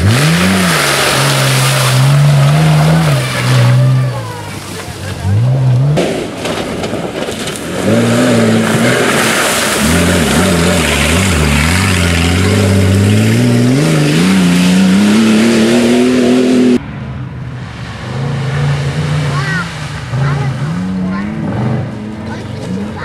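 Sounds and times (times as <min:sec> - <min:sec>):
rally car engine revving: 0:00.0 - 0:16.8, 0:17.8 - 0:23.0.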